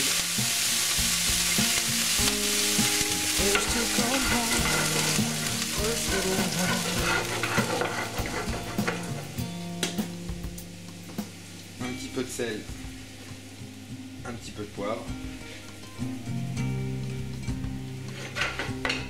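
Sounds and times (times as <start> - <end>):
cream sizzling in a frying pan: 0.0 - 19.0.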